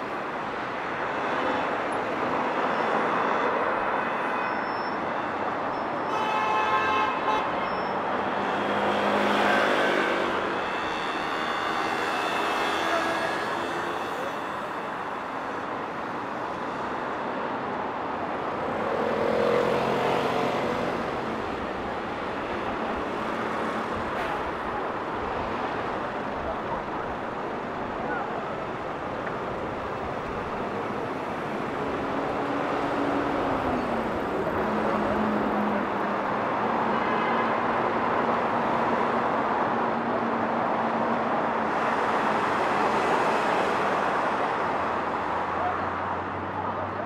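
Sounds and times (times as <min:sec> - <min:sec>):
cars passing: 0:06.8 - 0:47.0.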